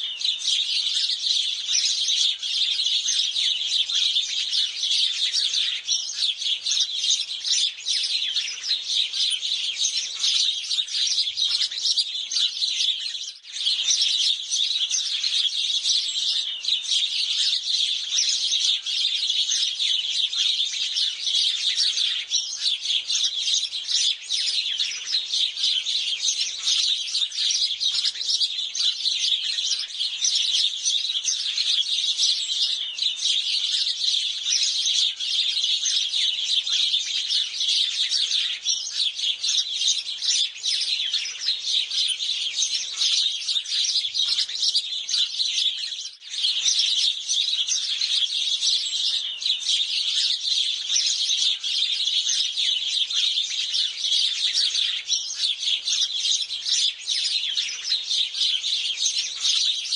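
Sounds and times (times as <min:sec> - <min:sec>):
sparrows chirping: 0:00.0 - 0:59.9.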